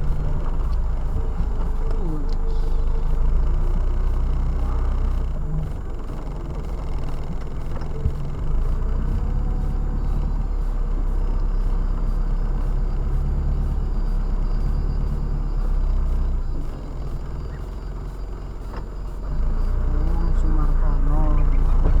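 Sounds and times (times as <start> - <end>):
car interior road rumble: 0.0 - 22.0.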